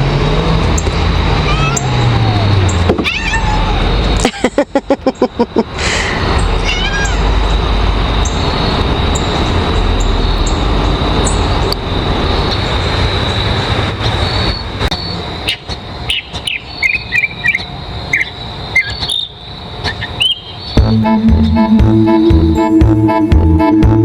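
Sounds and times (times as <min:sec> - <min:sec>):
loud rumbling noise: 0:00.0 - 0:24.0.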